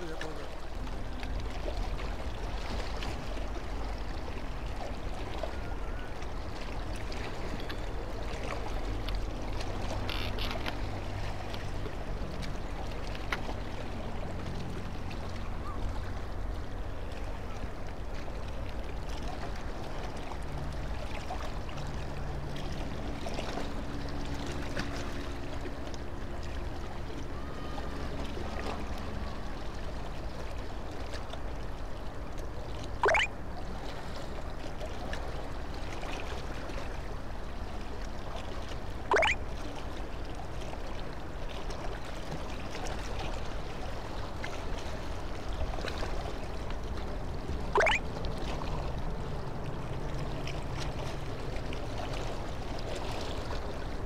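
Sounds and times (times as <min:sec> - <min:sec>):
water lapping at quay: 0:00.0 - 0:54.0.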